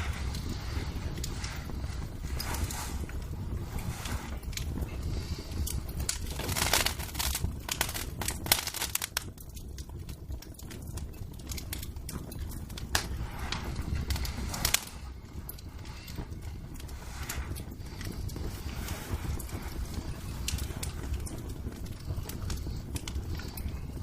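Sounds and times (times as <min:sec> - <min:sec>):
low fire rumble: 0:00.0 - 0:24.0
sharp pops and snaps: 0:00.0 - 0:24.0
wood fire crackling: 0:00.0 - 0:24.0.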